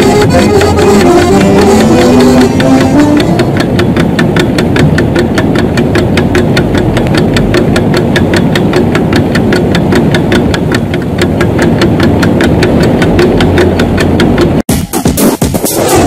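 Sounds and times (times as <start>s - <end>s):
electronic music with drone: 0.0s - 16.0s
fast ticking beat: 0.0s - 16.0s.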